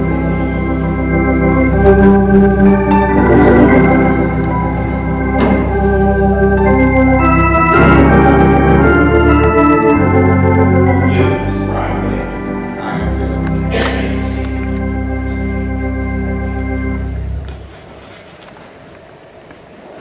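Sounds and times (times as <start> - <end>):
organ playing sustained chords: 0.0 - 18.2.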